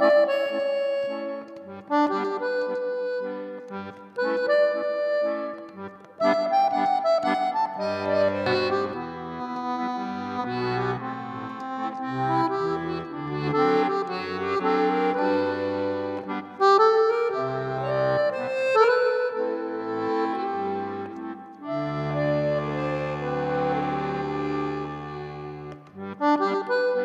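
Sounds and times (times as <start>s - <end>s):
accordion playing a tune: 0.0s - 27.0s.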